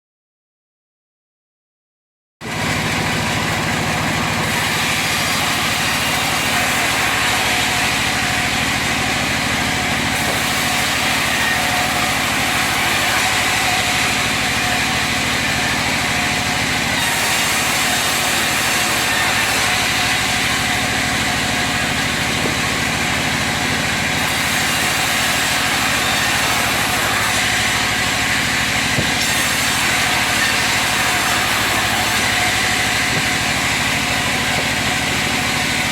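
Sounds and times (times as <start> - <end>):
log-sawing machine running: 2.4 - 35.9.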